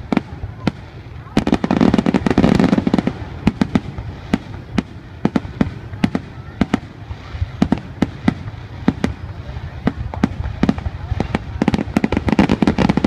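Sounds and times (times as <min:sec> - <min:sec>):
fireworks bursting with sharp bangs: 0:00.0 - 0:13.0.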